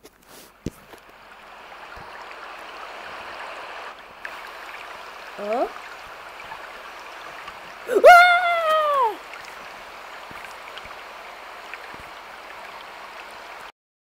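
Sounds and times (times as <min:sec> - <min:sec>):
tap water running into a sink: 0:00.7 - 0:07.9, 0:08.6 - 0:13.7.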